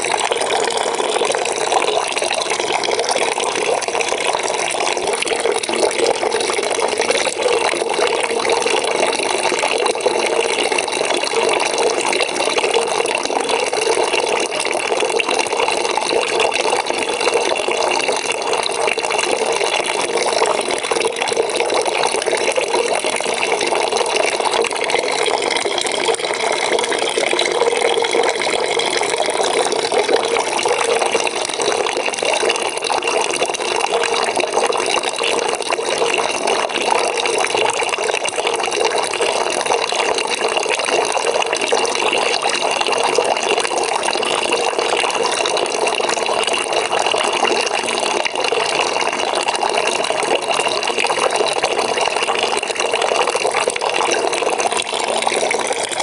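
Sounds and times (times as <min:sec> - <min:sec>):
tap water pouring into bucket: 0:00.0 - 0:56.0.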